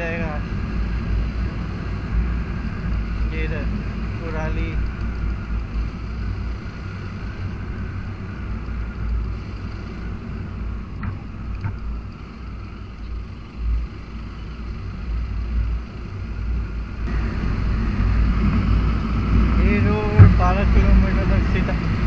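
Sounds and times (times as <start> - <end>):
motorcycle engine drone: 0.0 - 22.0
wind rumbling on microphone: 0.0 - 22.0.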